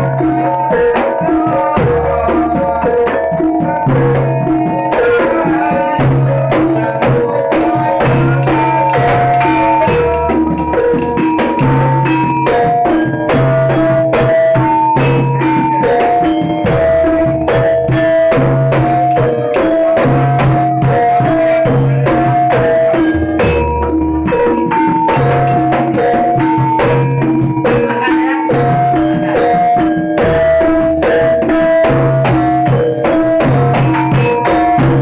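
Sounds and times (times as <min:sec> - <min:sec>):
gamelan percussion ensemble: 0:00.0 - 0:35.0.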